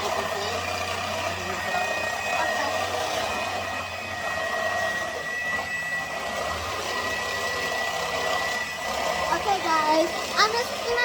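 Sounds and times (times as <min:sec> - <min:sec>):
small motor whirring: 0:00.0 - 0:11.0.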